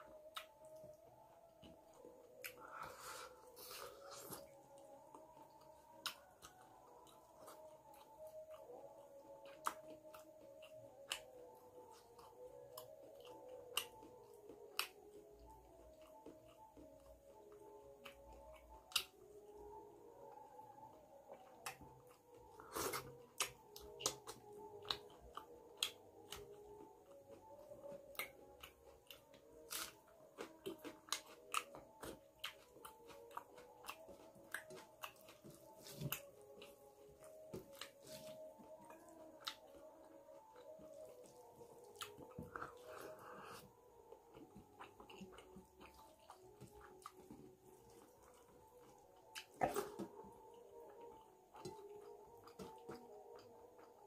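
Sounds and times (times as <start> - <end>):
chewing and lip-smacking: 0.0 - 54.0.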